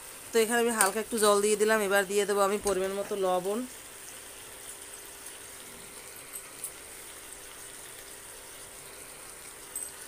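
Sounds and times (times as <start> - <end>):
potato wedges sizzling in oil: 0.0 - 10.0.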